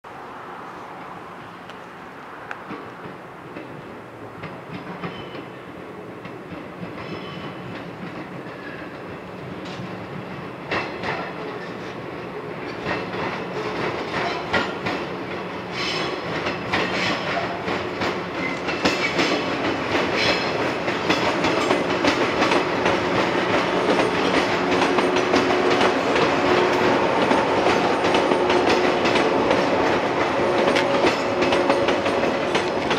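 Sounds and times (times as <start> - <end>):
train wheels clattering over rails: 2.6 - 32.9.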